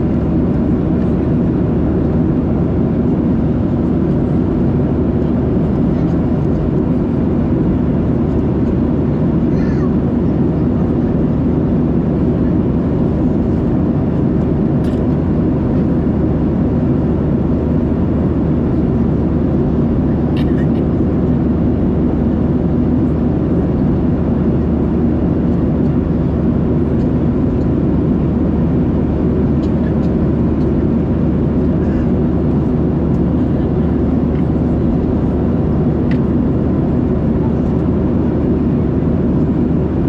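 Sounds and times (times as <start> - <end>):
airflow over fuselage: 0.0 - 40.0
jet engine low rumble: 0.0 - 40.0.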